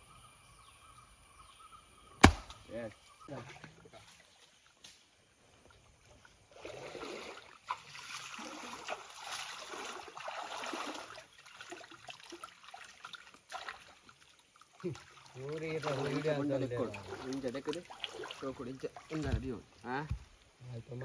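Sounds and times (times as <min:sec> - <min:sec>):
water splashing and trickling: 0:02.2 - 0:21.0.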